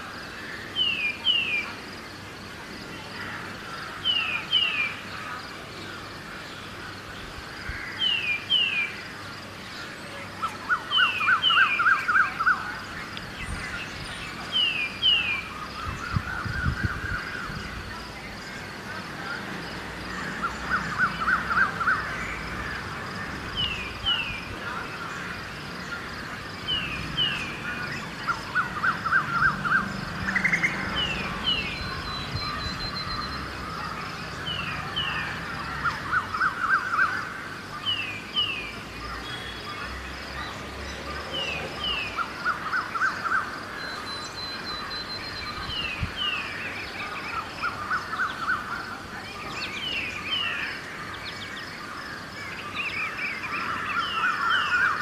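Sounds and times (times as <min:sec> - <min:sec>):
distant city traffic hum: 0:00.0 - 0:55.0
rapid lower bird calls: 0:03.1 - 0:55.0.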